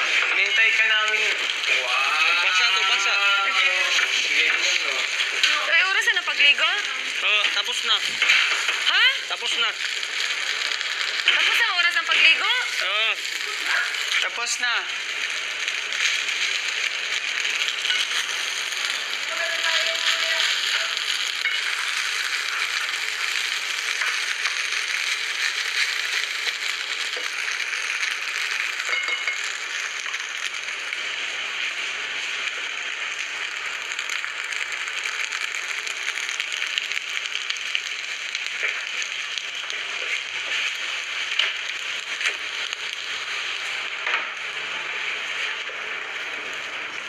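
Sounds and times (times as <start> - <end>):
steady rain: 0.0 - 47.0.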